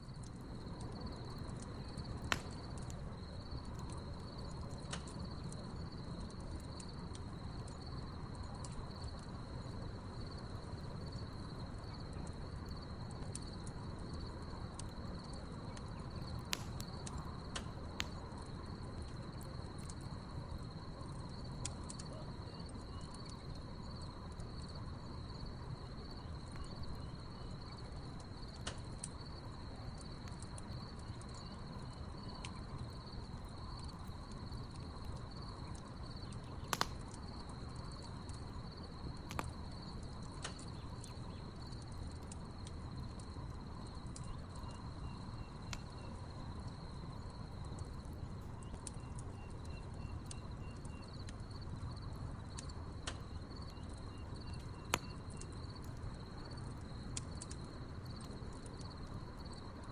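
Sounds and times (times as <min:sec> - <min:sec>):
campfire burning: 0:00.0 - 0:59.9
crickets chirping: 0:00.0 - 0:59.9
burning logs popping and crackling: 0:00.1 - 0:59.9.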